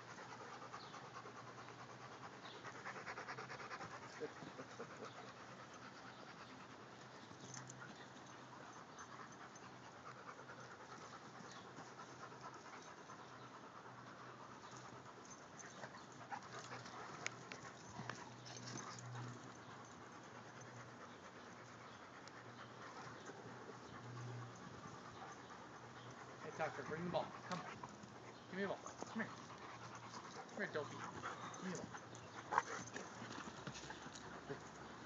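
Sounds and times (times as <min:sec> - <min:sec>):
dogs panting: 0:00.0 - 0:35.0.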